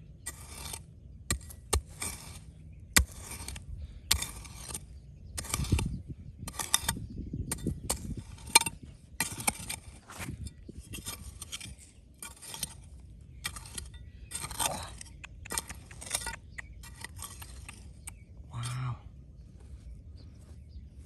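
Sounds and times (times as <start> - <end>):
stones and gravel scraping: 0.1 - 18.8.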